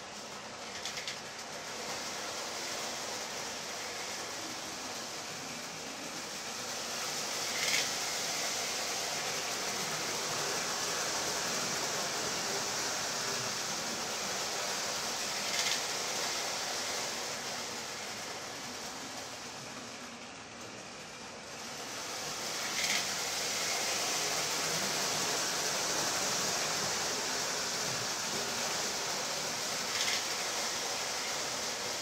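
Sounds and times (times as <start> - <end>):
toy train electric motor whirring: 0.0 - 32.0
toy train wheels rumbling: 0.0 - 32.0.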